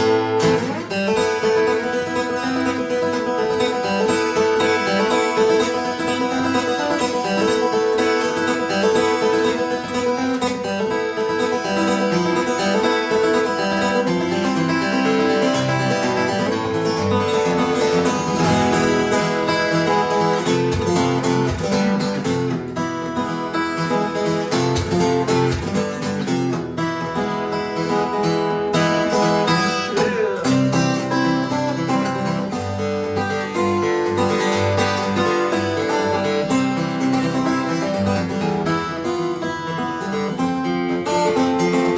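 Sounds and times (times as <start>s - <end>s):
acoustic guitar folk melody: 0.0s - 41.9s.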